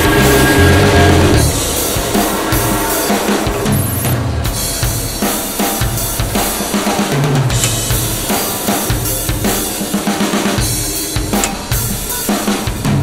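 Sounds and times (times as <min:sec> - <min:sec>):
soundtrack music with drum beat: 0:00.0 - 0:13.0.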